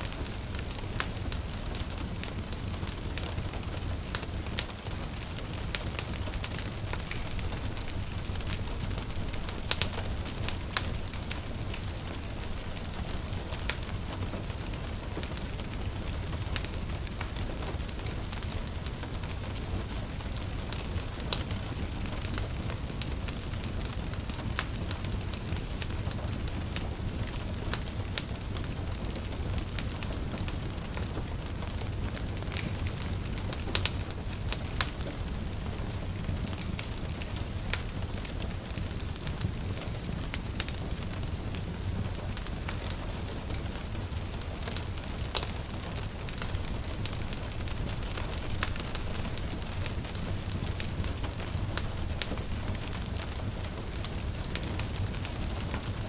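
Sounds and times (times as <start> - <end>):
gentle rain falling: 0.0 - 56.0
wood fire crackling and popping: 0.0 - 56.0.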